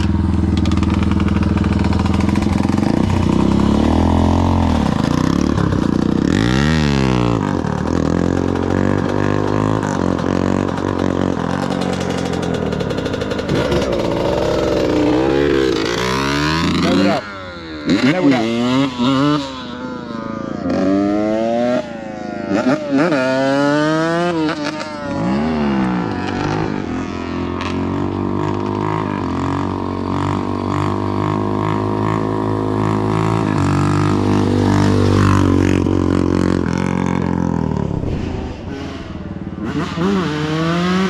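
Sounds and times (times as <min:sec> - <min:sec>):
dirt bike engine accelerating: 0:00.0 - 0:41.0.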